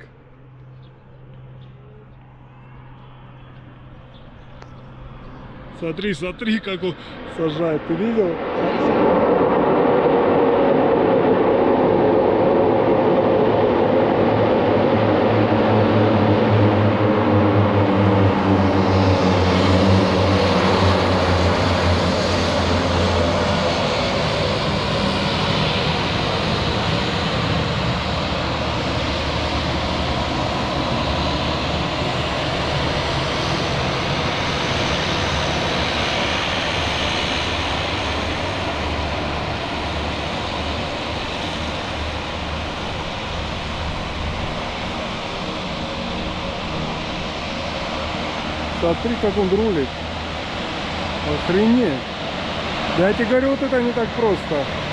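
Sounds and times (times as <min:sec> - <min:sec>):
turboprop airplane engines running: 0:00.0 - 0:54.9.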